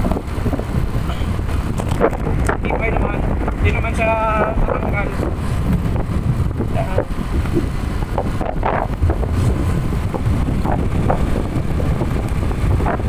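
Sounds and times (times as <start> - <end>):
scooter riding noise: 0.0 - 13.0
wind buffeting microphone: 0.0 - 13.0.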